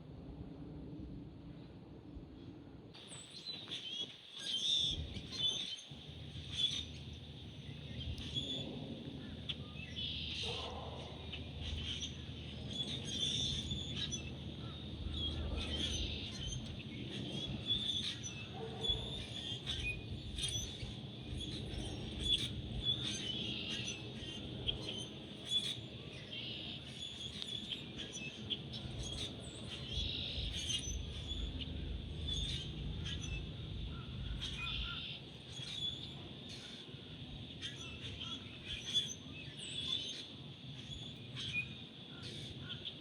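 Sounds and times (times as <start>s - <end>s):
low outdoor background noise: 0.0s - 43.0s
birds chirping: 3.0s - 43.0s.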